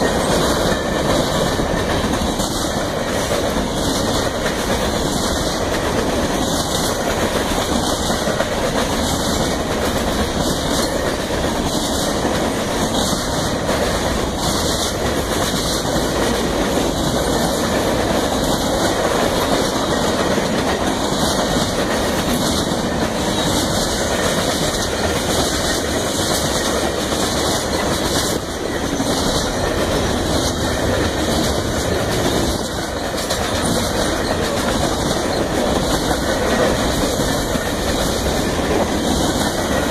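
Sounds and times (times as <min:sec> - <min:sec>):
freight train wheels rumbling: 0:00.0 - 0:39.9
wheels clacking over rail joints: 0:00.0 - 0:39.9.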